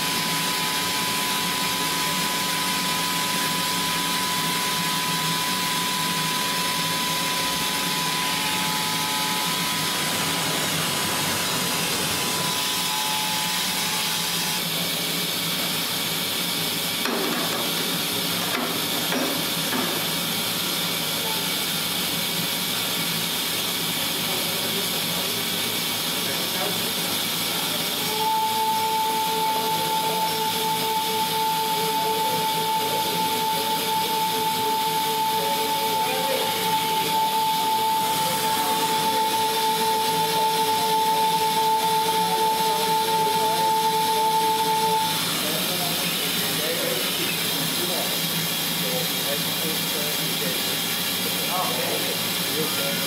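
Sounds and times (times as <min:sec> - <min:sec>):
thin high whine: 0:00.0 - 0:16.0, 0:26.1 - 0:53.0.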